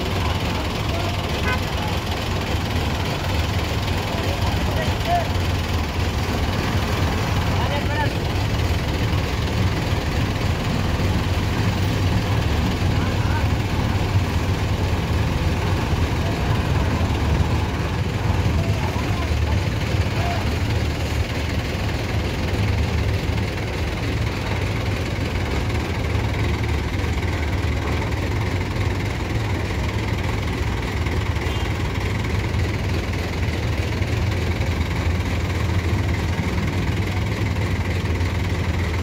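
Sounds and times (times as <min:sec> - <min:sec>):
large diesel engine idling: 0:00.0 - 0:39.0.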